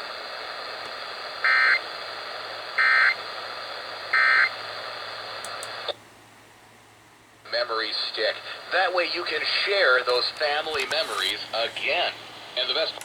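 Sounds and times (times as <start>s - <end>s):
radio hiss: 0.0s - 6.0s, 7.5s - 13.0s.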